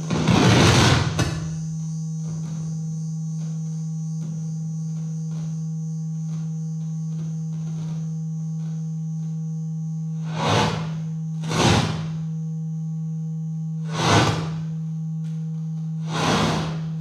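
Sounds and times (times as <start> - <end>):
low sine-tone drone: 0.0 - 17.0.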